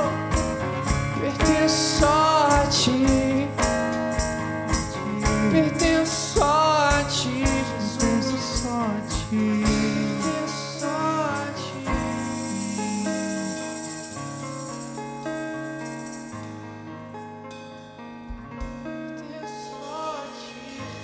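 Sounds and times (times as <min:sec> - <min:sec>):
drum kit: 0:00.0 - 0:16.4, 0:18.3 - 0:21.0
strummed acoustic guitar: 0:00.0 - 0:21.0.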